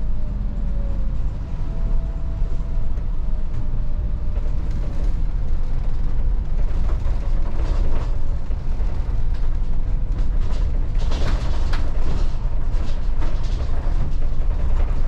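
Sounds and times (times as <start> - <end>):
bus diesel engine rumble: 0.0 - 15.0
road noise: 0.0 - 15.0.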